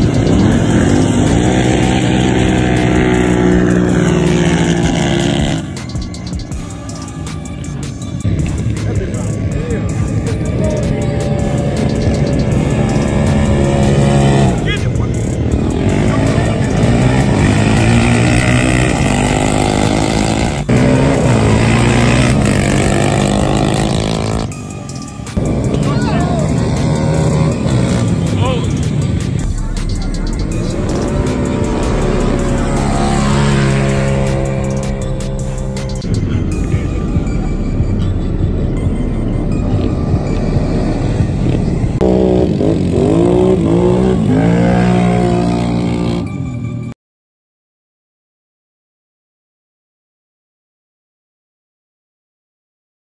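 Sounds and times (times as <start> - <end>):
quad engines revving: 0.0 - 46.7.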